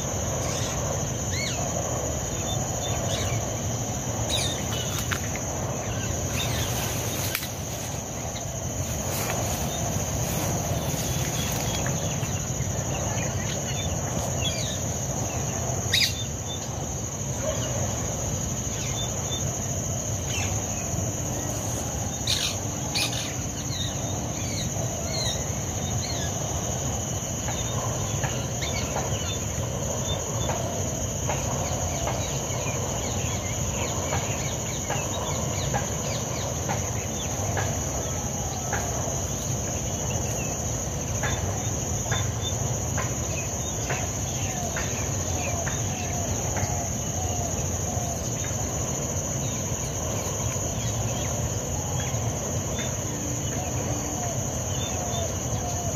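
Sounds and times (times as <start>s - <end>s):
crickets droning: 0.0s - 55.9s.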